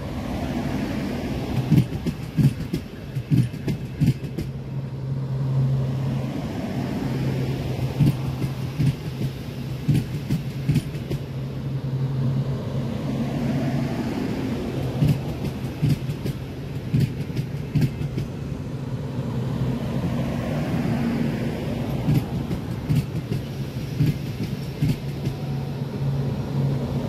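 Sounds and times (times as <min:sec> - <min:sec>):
wheels clacking over rail joints: 0:00.0 - 0:04.9, 0:06.1 - 0:11.6, 0:13.1 - 0:18.7, 0:19.8 - 0:25.7
electric train humming: 0:00.0 - 0:27.0.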